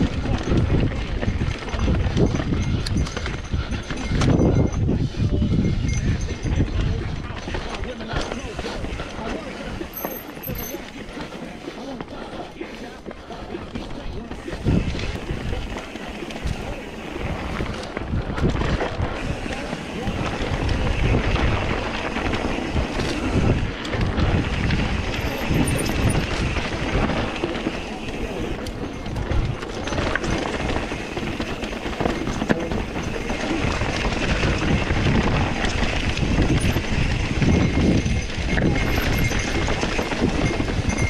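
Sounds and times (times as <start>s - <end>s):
bike rattling over stones: 0.0s - 41.0s.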